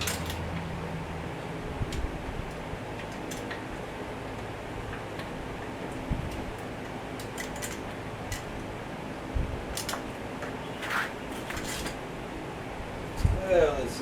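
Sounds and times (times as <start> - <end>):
steady background hiss: 0.1 - 14.0.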